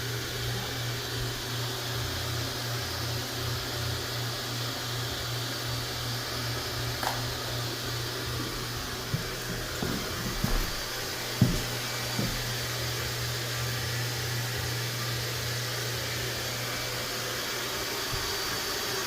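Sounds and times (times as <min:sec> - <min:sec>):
electric blower motor whirring: 0:00.0 - 0:19.0.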